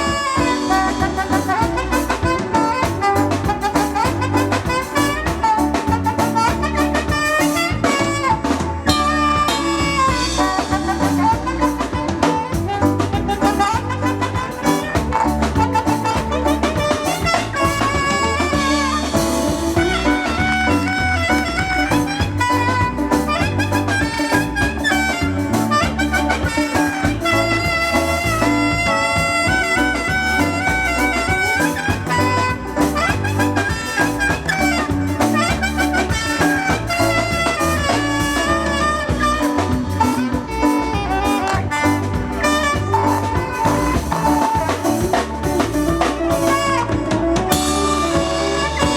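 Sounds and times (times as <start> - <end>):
band playing loud music: 0.0 - 48.9.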